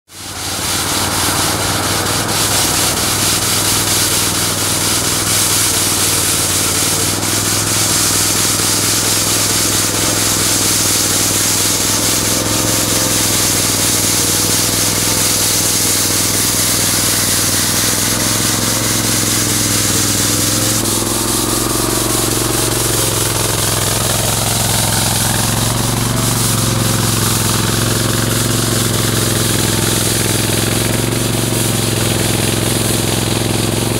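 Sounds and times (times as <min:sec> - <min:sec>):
loader engine running: 0:00.1 - 0:33.9
sweeper brush hissing on asphalt: 0:00.1 - 0:33.9.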